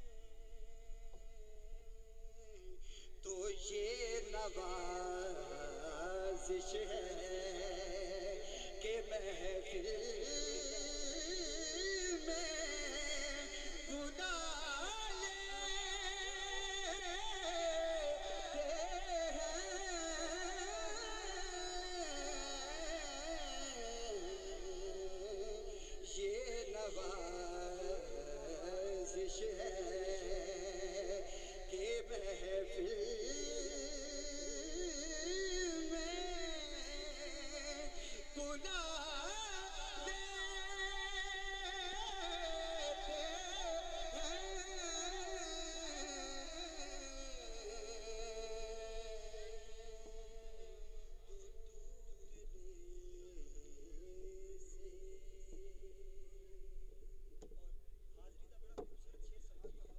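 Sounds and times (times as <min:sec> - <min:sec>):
man singing through loudspeakers: 0:00.0 - 0:59.9.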